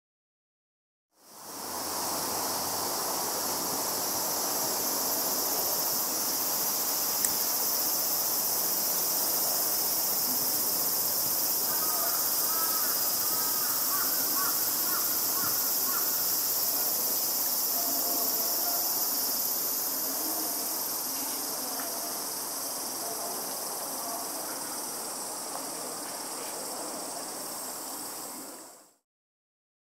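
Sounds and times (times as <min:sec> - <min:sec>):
cicadas shrilling: 0:01.2 - 0:29.0.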